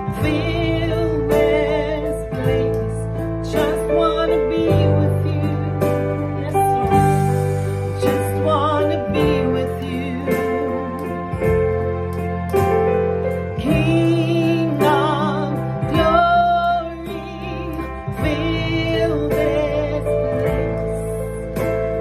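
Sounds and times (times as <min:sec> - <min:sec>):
woman singing with vibrato: 0:00.0 - 0:07.3, 0:07.9 - 0:11.3, 0:13.6 - 0:21.4
sustained keyboard chords: 0:00.0 - 0:22.0.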